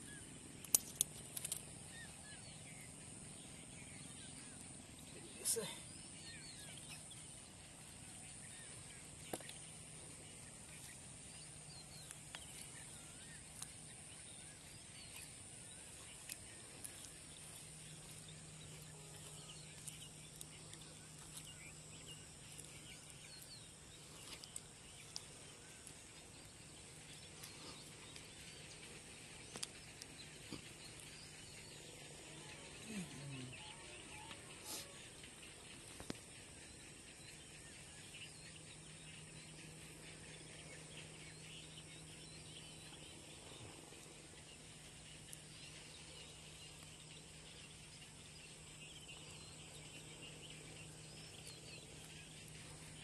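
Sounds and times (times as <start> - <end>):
faint bird chirps: 0.0 - 53.0
low steady hum: 0.0 - 53.0
steady high hiss: 0.0 - 53.0.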